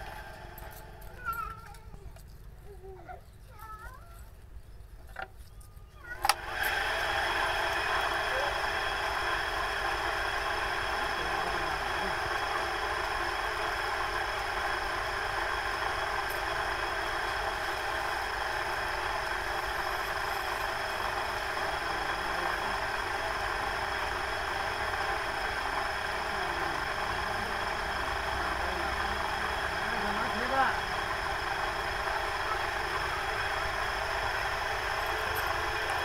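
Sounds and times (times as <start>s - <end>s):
potter's wheel motor hum: 0.0s - 36.0s.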